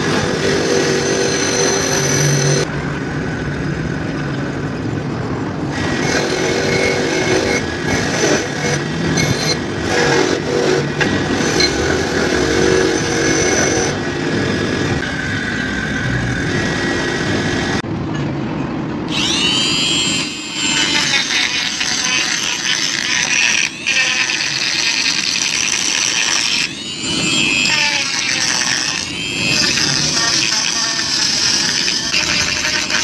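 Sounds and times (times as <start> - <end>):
bench grinder grinding metal: 0.0 - 2.7, 5.8 - 17.8, 19.1 - 33.0
rotary tool whining: 0.0 - 2.7, 5.7 - 17.8, 19.1 - 33.0.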